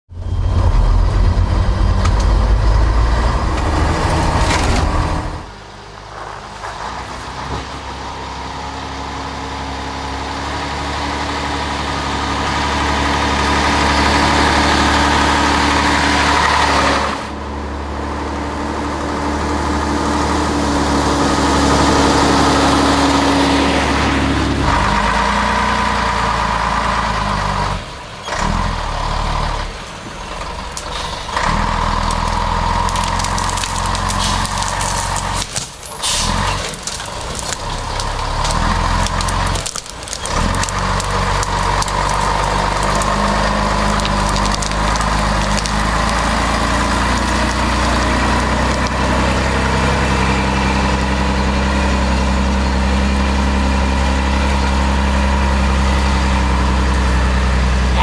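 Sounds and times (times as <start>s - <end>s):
diesel truck engine with whine: 0.1s - 58.0s.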